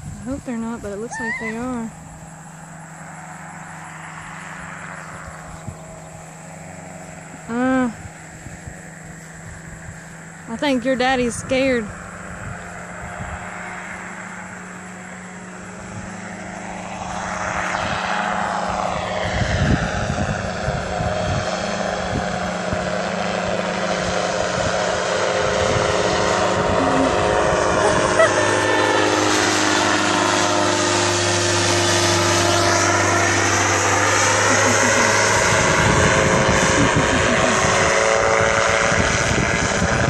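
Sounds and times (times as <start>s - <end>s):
aircraft engine and propeller drone: 0.0s - 40.0s.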